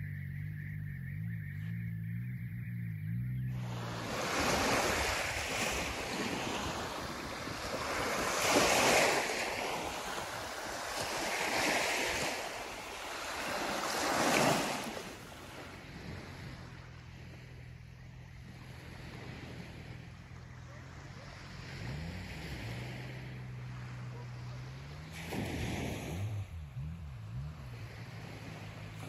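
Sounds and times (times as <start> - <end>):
small waves breaking on beach: 3.6 - 29.0.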